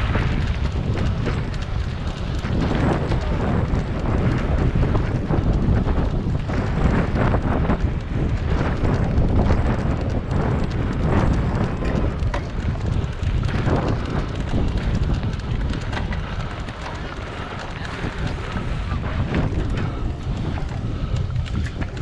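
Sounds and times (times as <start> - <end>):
bike knocking and rattling: 0.0 - 22.0
tyres rumbling over dirt: 0.0 - 22.0
wind rushing over microphone: 0.0 - 22.0.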